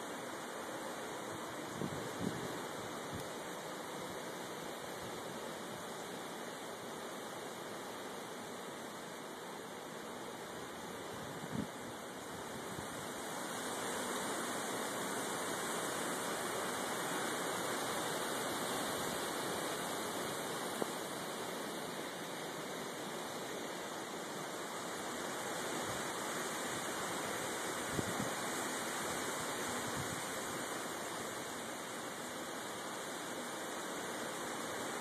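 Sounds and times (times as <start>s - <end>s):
wind rushing through trees: 0.0s - 35.0s.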